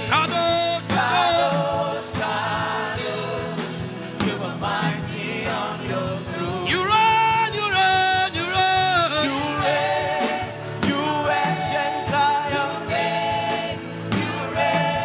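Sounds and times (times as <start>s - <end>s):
gospel singing with backing music: 0.0s - 15.0s.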